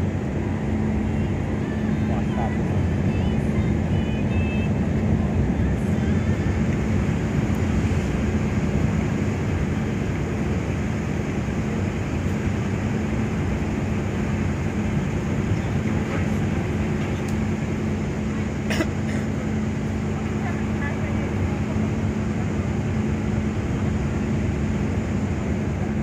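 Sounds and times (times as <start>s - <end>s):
ship diesel engines droning: 0.0s - 26.0s.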